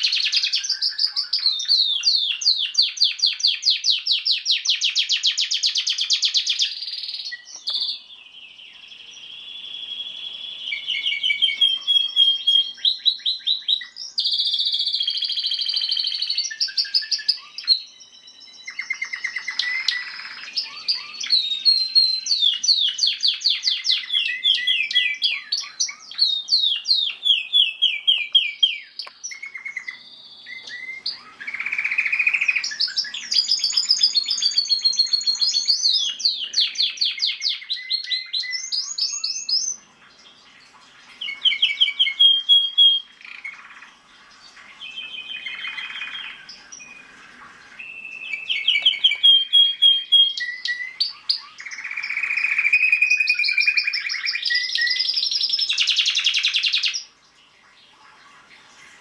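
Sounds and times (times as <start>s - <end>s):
canary singing trills: 0.0s - 57.1s.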